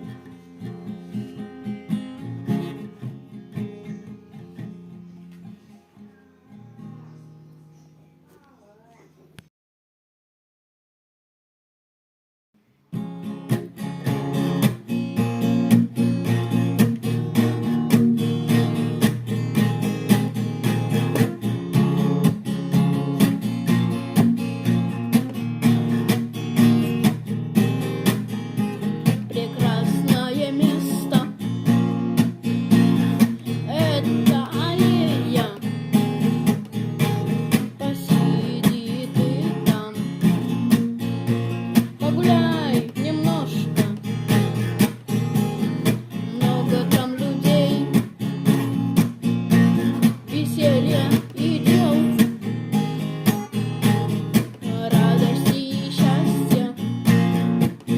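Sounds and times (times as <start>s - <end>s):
acoustic guitar strumming: 0.0s - 7.9s, 12.9s - 57.9s.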